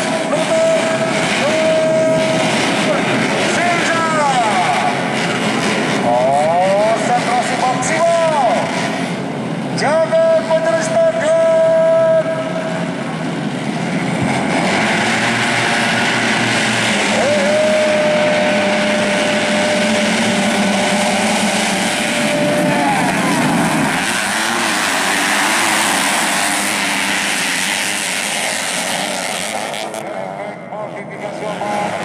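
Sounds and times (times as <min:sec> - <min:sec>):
motorbikes revving and accelerating: 0:00.0 - 0:32.0.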